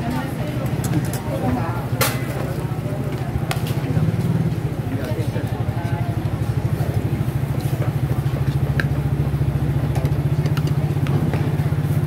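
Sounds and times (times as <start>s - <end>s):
motorcycle engine idling: 1.8s - 12.0s.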